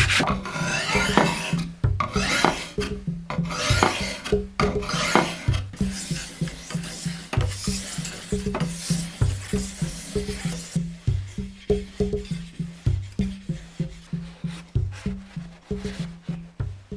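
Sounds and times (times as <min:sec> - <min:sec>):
rasping sanding strokes: 0:00.0 - 0:16.7
quiet background music: 0:00.0 - 0:16.9.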